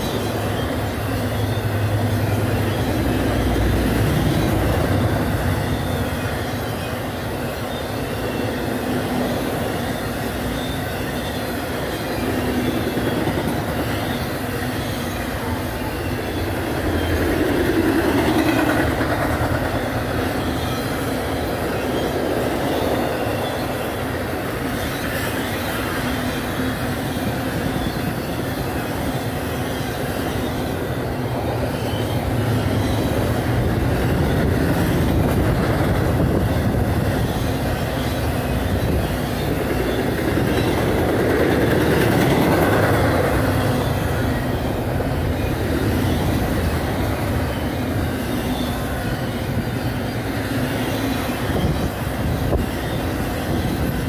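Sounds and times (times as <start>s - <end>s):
faint high wheel squeal: 0.0s - 54.0s
freight cars rumbling and rattling: 0.0s - 54.0s.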